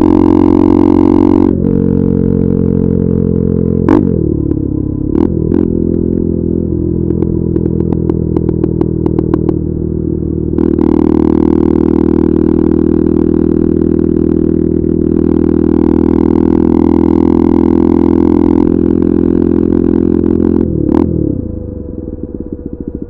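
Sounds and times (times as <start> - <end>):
exhaust crackling and popping: 0.0 - 23.0
motorcycle engine: 0.0 - 23.0.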